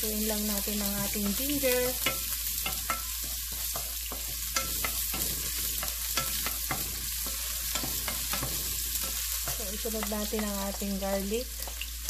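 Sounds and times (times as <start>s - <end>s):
ginger sizzling in hot oil: 0.0s - 12.0s.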